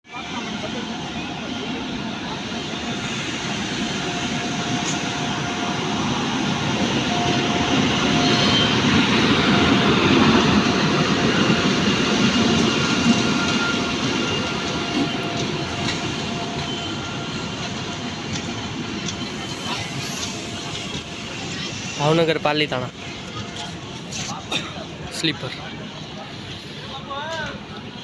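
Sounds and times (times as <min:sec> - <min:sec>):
wheels rumbling on rails: 0:00.4 - 0:28.0.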